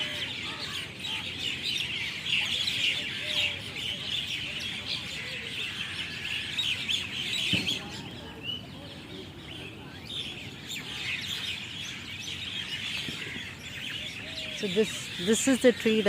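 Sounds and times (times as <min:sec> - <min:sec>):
flock of birds chattering: 0:00.0 - 0:16.0.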